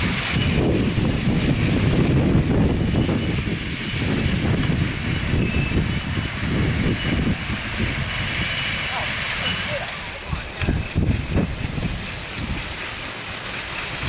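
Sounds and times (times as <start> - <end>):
model steam locomotive rumbling: 0.0 - 14.0.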